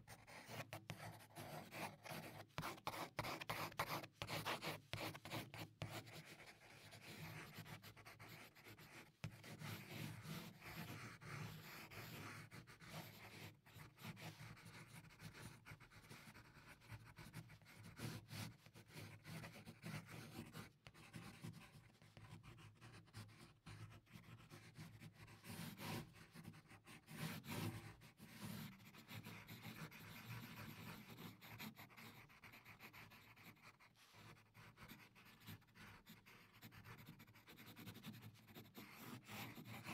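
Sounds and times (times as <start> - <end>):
pencil scratching on paper: 0.0 - 39.9.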